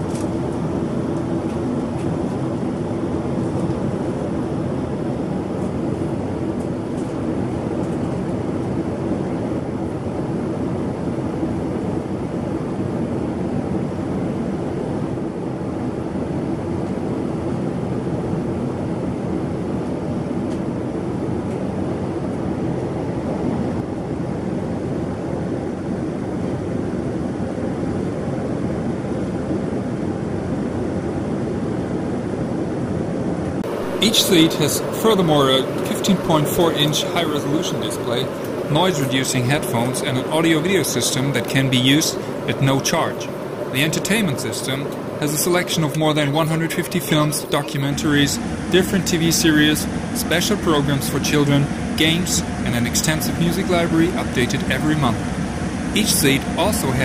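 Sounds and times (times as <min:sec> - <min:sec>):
airplane cabin drone: 0:00.0 - 0:57.0
faint steady hum: 0:00.0 - 0:57.0.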